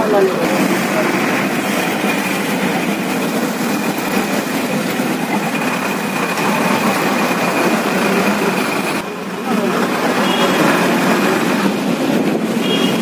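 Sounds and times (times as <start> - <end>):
bus engine running: 0.0 - 13.0
cabin and road noise: 0.0 - 13.0.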